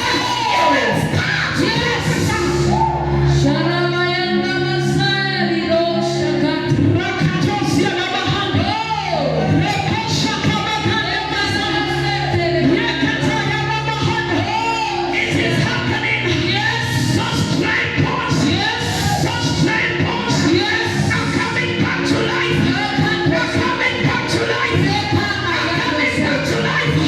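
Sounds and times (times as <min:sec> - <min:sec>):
voices singing worship music: 0:00.0 - 0:27.0.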